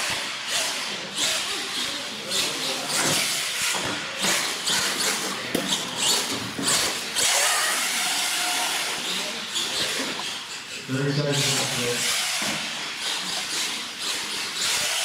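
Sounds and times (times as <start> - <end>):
toy truck motor whirring: 0.0 - 15.0.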